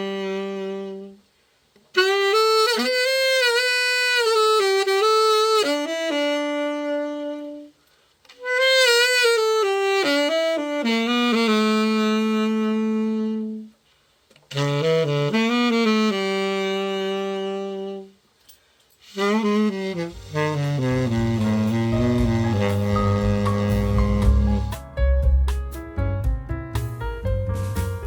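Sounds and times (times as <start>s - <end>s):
tenor saxophone melody: 0.0s - 1.3s, 1.9s - 13.8s, 14.5s - 18.2s, 19.0s - 24.8s.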